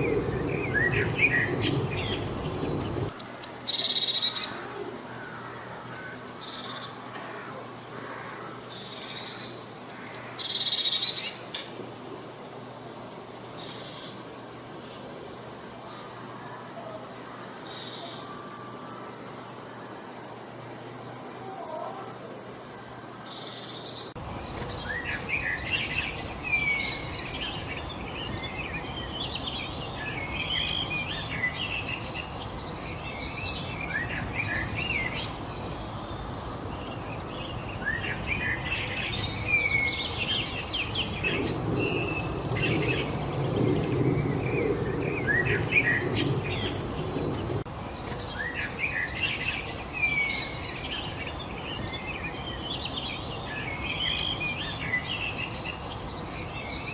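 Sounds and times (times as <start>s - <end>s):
songbirds singing and chirping: 0.0s - 56.9s
steady background hiss: 0.0s - 56.9s.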